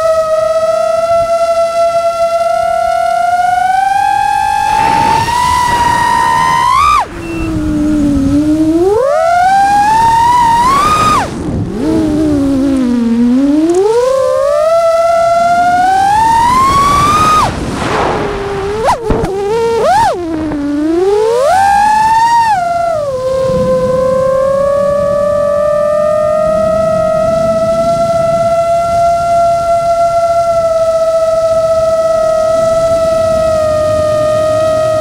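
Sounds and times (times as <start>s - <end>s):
quadcopter propeller whine: 0.0s - 35.0s.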